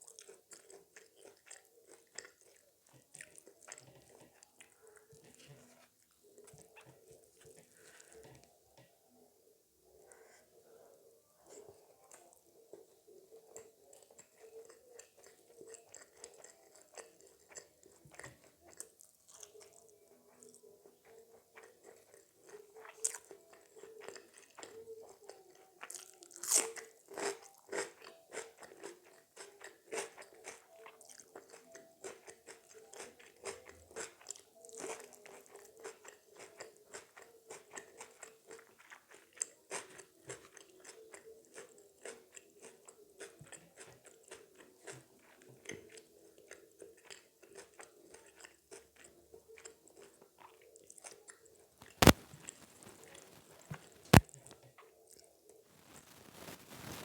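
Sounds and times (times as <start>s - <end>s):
person chewing crunchy food: 0.0s - 8.5s, 11.5s - 57.0s.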